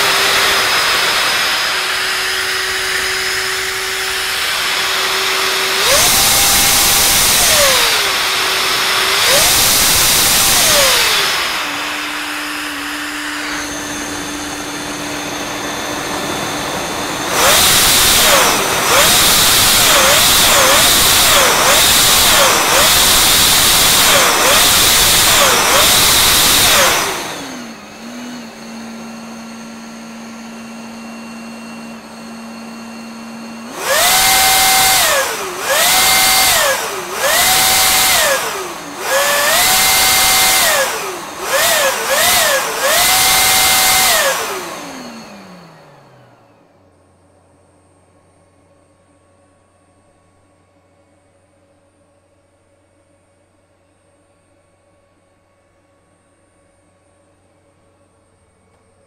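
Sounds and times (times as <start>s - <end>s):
electric supercharger whine: 0.0s - 59.0s.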